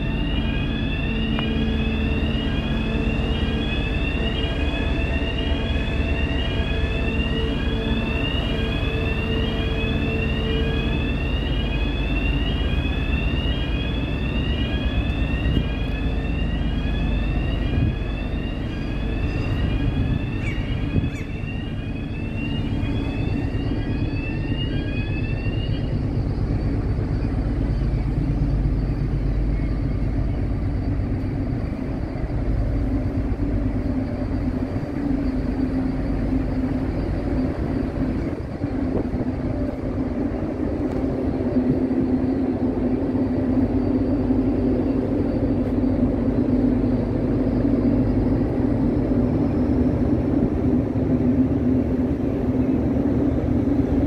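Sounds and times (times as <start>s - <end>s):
ship machinery droning: 0.0s - 54.0s.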